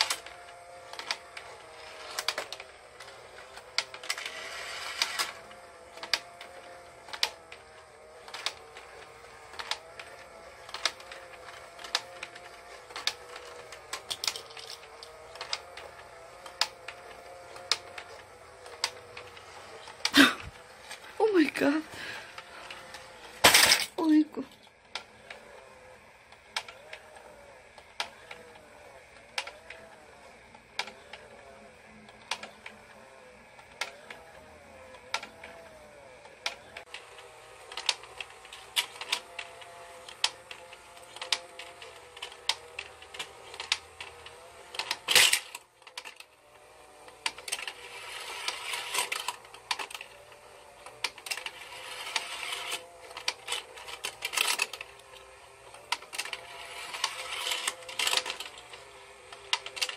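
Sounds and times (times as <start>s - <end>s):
plastic toy clicking: 0.0s - 21.6s, 22.4s - 59.9s
toy motor whir: 0.0s - 59.9s.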